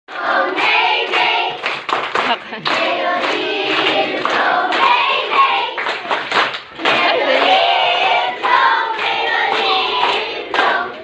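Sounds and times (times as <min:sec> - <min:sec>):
children singing in chorus: 0:00.1 - 0:01.6, 0:02.7 - 0:06.0, 0:06.8 - 0:11.0
children clapping: 0:00.1 - 0:11.0.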